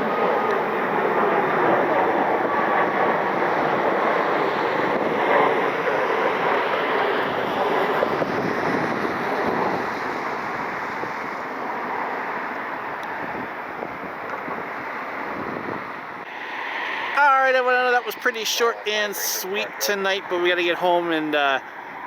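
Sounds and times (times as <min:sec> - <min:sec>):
jet airliner engine rush: 0:00.0 - 0:22.0.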